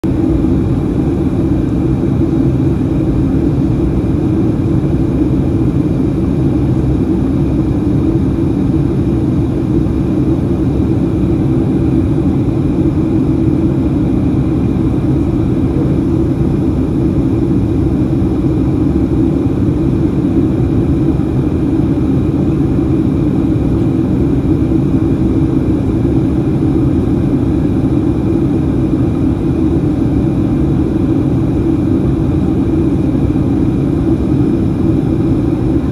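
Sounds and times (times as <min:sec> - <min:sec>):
jet engine and airflow rumble: 0:00.0 - 0:35.9.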